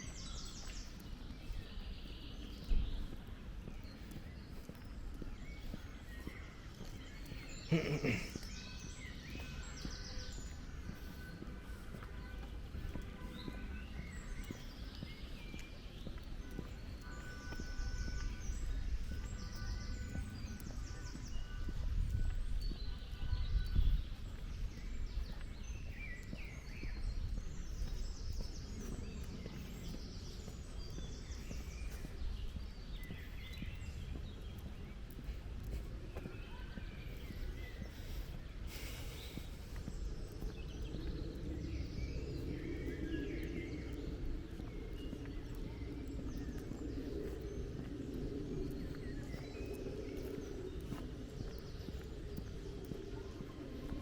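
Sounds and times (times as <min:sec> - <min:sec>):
faint footsteps: 0:00.0 - 0:54.0
outdoor ambience: 0:00.0 - 0:54.0
small birds chirping: 0:00.0 - 0:54.0.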